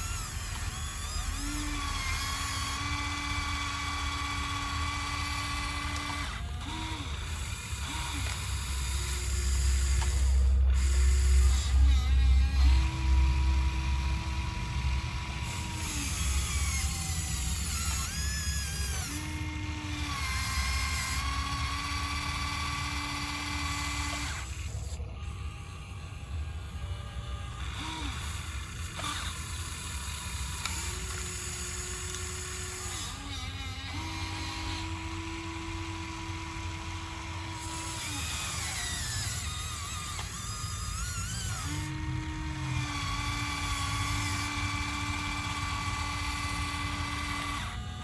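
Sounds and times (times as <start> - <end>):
small electric motors whining: 0.0 - 48.0.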